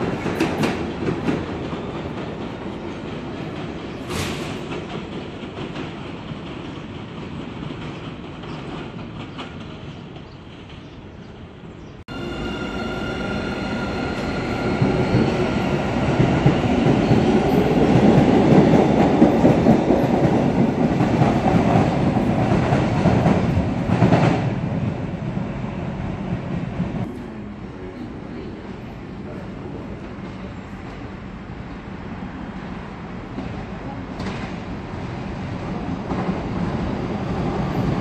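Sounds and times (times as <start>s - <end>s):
distant train approaching: 0.0s - 38.0s
train wheels rumbling on rails: 0.0s - 38.0s.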